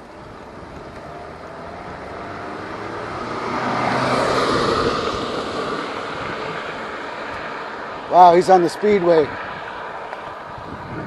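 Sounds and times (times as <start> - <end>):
car passing by: 0.2 - 11.0.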